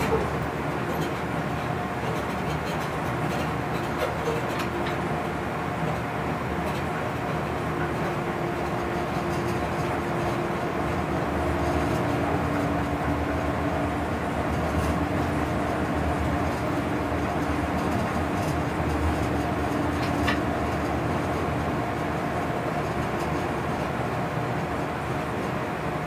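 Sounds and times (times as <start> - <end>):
electric locomotive humming: 0.0 - 26.0.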